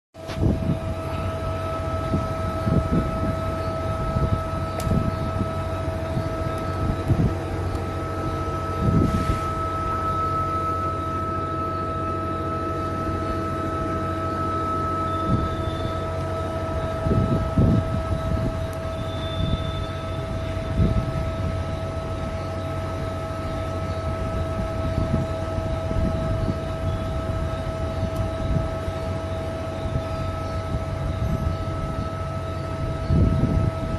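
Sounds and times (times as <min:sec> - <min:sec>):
low rumble: 0:00.2 - 0:32.1
extruder machine whine: 0:00.2 - 0:33.9.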